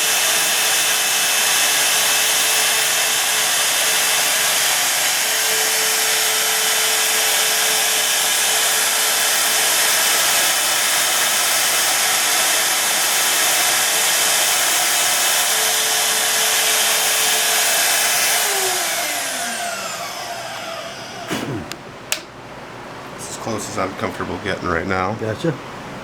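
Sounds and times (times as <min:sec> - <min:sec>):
electric shop machine whooshing: 0:00.0 - 0:21.8.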